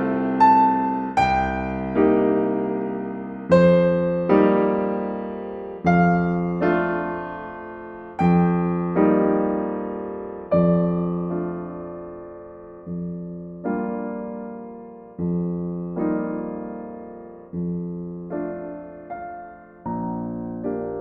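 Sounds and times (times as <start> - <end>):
gentle solo piano chords: 0.0 - 21.0.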